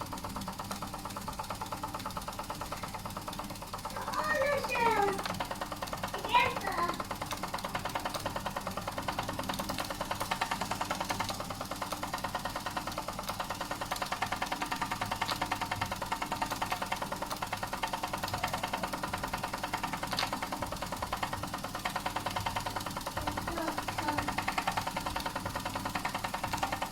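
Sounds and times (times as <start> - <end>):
model steam engine chuffing: 0.0 - 26.9.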